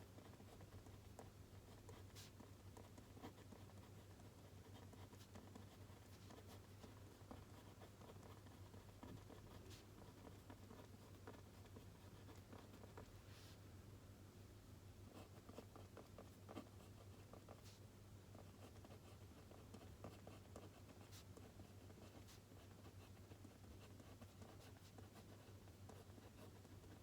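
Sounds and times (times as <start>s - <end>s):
low steady hum: 0.0s - 27.0s
pen scratching on paper: 0.2s - 13.1s, 15.1s - 27.0s.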